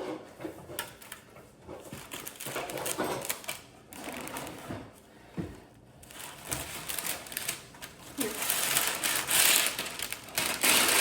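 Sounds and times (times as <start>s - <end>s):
kitchen items clicking and clattering: 0.0s - 11.0s.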